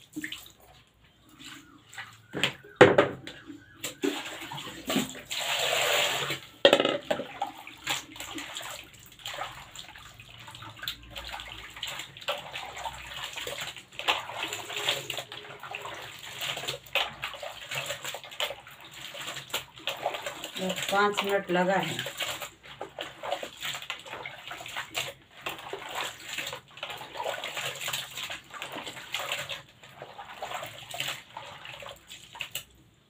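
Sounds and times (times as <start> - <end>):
running water: 0.0 - 32.9
water sloshing in plastic basin: 0.0 - 32.9.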